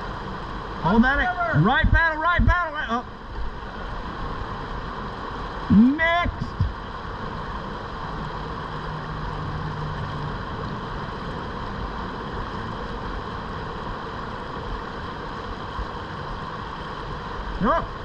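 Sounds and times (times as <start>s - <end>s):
river water rushing over riffle: 0.0s - 18.0s.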